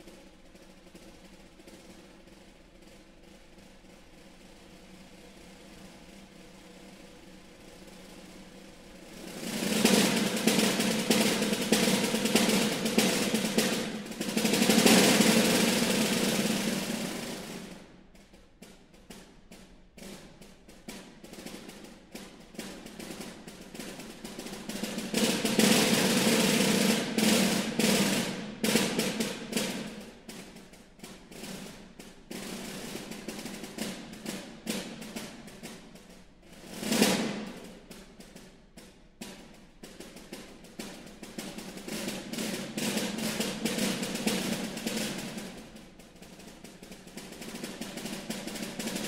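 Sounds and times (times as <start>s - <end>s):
snare drum rolls and strokes: 0.0s - 49.0s.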